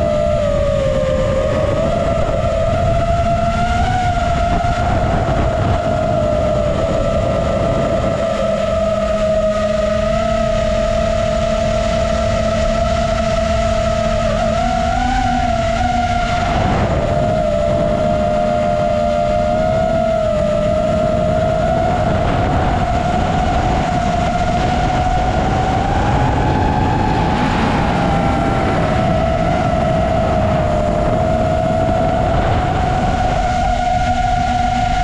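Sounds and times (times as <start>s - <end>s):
quadcopter propellers whining: 0.0s - 35.0s
rush of wind: 0.0s - 35.0s.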